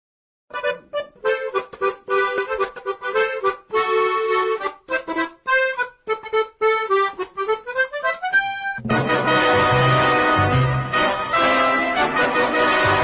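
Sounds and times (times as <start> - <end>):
bouncy accordion tune: 0.5 - 13.0.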